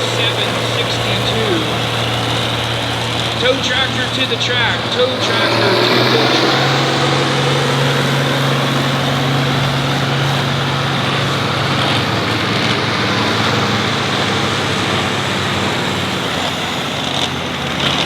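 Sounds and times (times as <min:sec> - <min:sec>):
steady wash of noise: 0:00.0 - 0:18.0
tractor engine running: 0:00.0 - 0:18.0.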